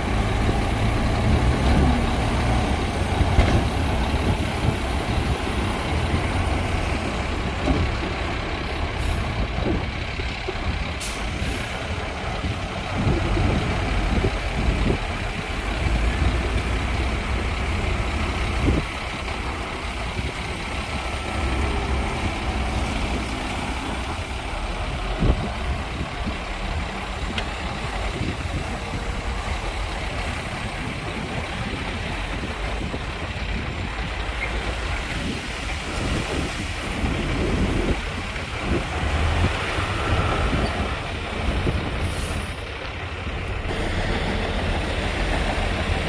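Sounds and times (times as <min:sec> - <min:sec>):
diesel machinery rumbling: 0:00.0 - 0:46.0.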